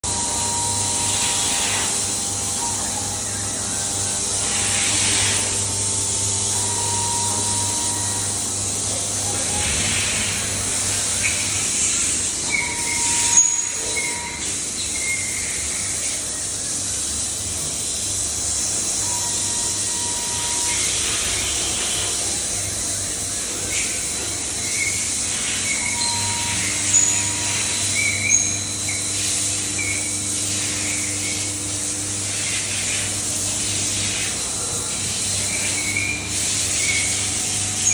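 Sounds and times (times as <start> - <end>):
cutting tool whine: 0.0 - 37.9
machining hiss: 0.1 - 37.9.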